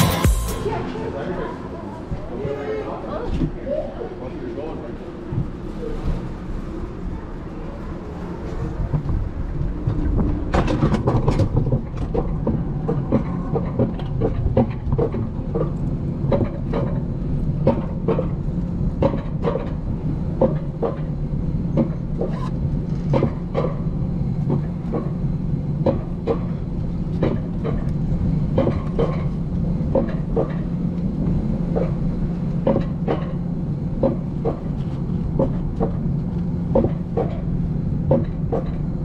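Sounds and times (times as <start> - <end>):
sled rumbling on steel track: 4.4 - 39.0.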